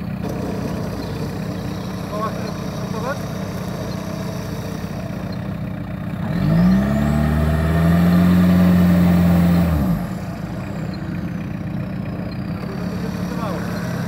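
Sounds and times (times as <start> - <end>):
off-road vehicle engine revving: 0.0 - 14.0.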